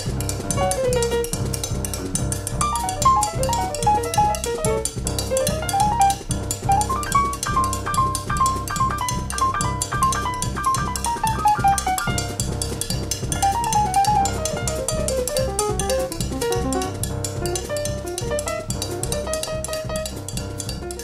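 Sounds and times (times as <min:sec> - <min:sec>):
drum kit with cymbals: 0:00.0 - 0:21.0
jazz piano: 0:00.0 - 0:21.0
walking bass: 0:00.0 - 0:21.0.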